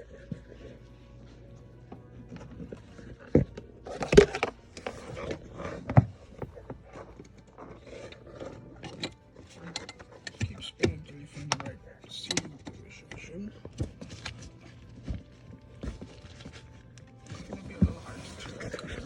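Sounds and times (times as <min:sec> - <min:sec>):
plastic clicking and scraping: 0:01.9 - 0:19.0.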